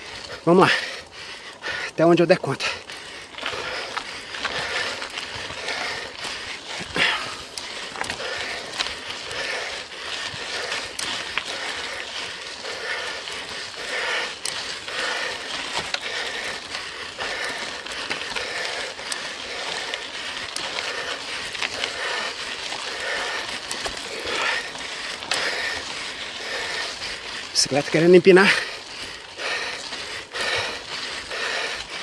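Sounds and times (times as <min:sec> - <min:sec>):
bike tyres and drivetrain noise: 0:00.0 - 0:32.0
drivetrain clicks: 0:02.8 - 0:32.0.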